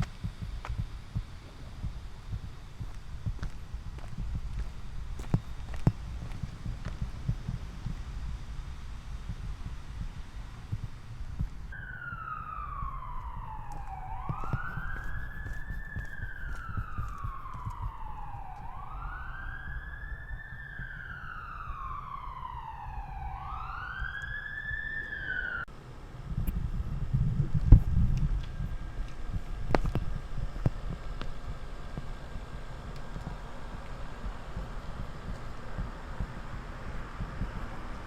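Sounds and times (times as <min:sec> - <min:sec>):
low rumble: 0:00.0 - 0:24.9, 0:25.6 - 0:38.0
emergency siren wailing: 0:00.0 - 0:25.7, 0:27.9 - 0:38.0.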